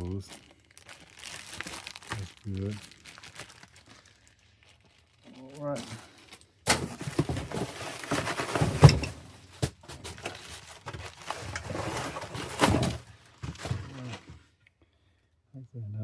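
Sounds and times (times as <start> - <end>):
packaging rustling and scraping: 0.1 - 14.6.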